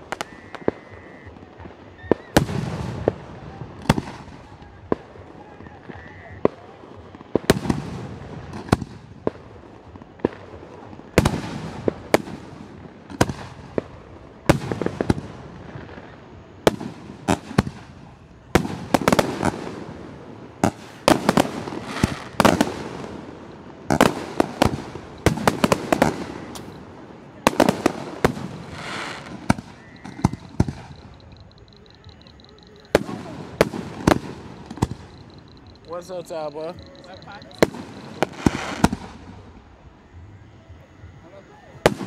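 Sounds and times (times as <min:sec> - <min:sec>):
fireworks bursting with loud bangs: 0:00.0 - 0:39.9, 0:41.7 - 0:42.0.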